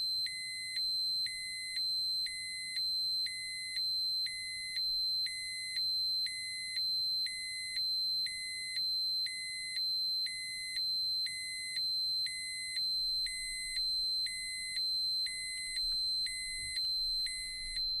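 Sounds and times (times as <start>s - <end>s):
electronic alarm beeping: 0.3s - 18.0s.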